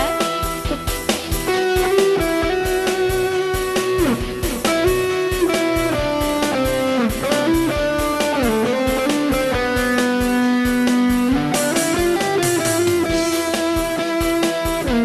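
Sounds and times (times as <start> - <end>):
electric guitar lead melody: 0.0 - 15.0
steady drum beat: 0.0 - 15.0.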